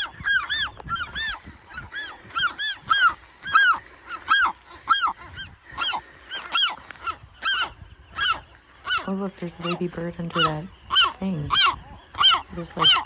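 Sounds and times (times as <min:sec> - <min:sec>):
gulls calling: 0:00.0 - 0:13.0.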